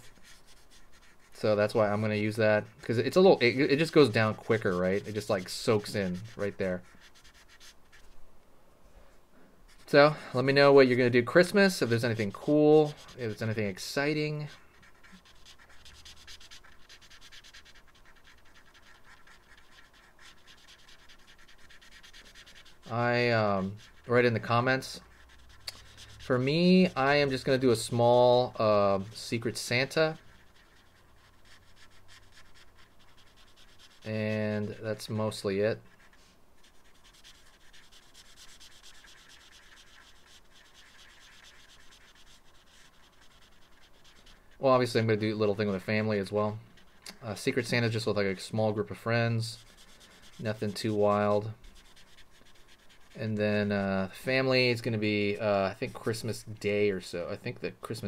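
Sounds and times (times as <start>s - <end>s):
marker scratching across paper: 0.0s - 8.2s, 9.7s - 55.0s.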